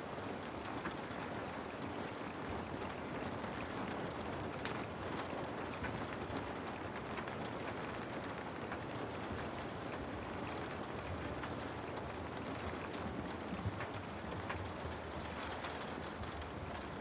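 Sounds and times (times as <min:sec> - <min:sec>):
rain on a window pane: 0:00.0 - 0:17.0.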